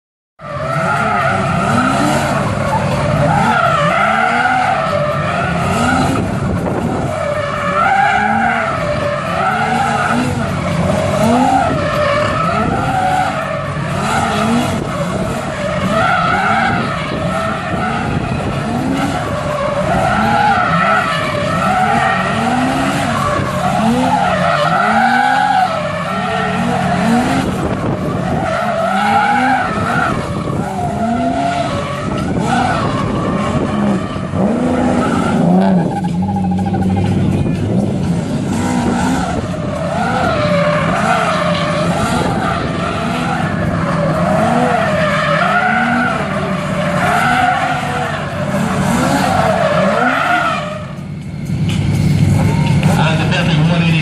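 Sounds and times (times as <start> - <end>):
tyres squealing in a skid: 0.4 - 51.0
car engine revving: 0.4 - 54.0.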